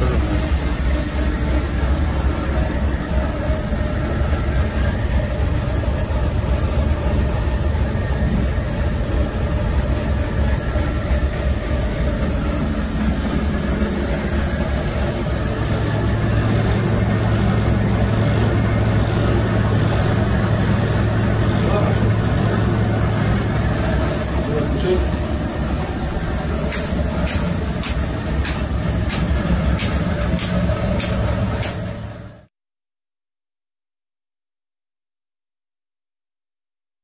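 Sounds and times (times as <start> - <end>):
air conditioner fan noise: 0.0 - 32.3
deeper steady hum: 0.0 - 32.5
generator humming: 0.0 - 32.5.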